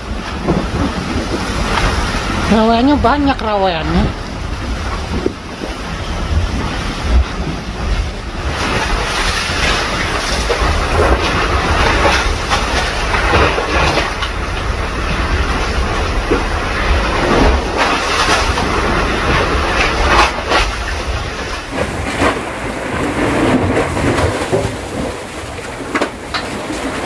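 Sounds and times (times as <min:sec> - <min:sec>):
waves splashing around boat: 0:00.0 - 0:27.0
wind buffeting microphone: 0:00.0 - 0:27.0.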